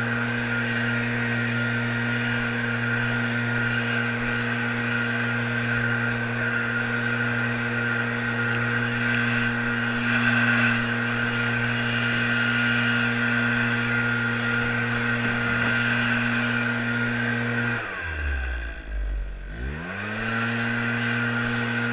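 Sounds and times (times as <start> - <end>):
small gasoline engine running: 0.0 - 21.9.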